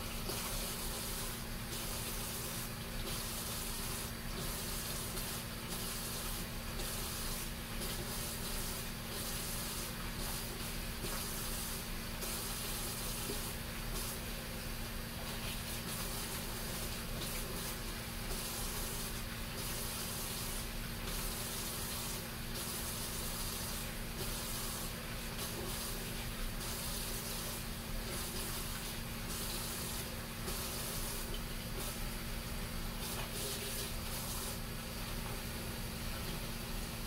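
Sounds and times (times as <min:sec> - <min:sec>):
faucet running into a sink: 0:00.0 - 0:14.3, 0:15.1 - 0:32.0, 0:32.9 - 0:35.4.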